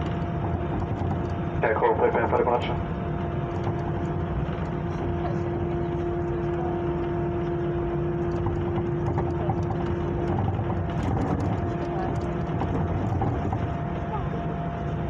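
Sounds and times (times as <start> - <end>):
airliner cabin jet engine rumble: 0.0 - 15.0.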